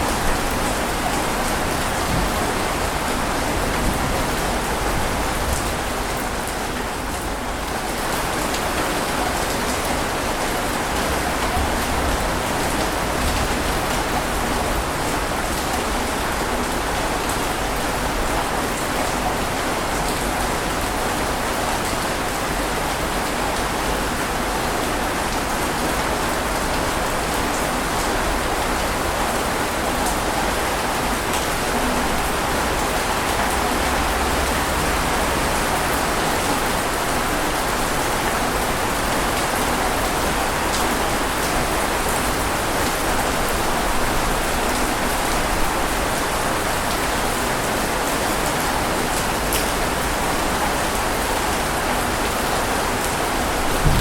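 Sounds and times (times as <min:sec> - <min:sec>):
heavy rain pattering: 0:00.0 - 0:54.0.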